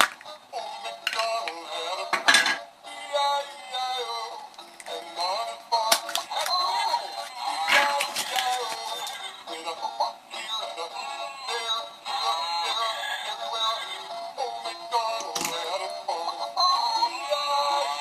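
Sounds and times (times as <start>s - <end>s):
children's song backing track: 0.0s - 18.0s
synthesized voice singing: 0.2s - 2.3s, 2.9s - 18.0s.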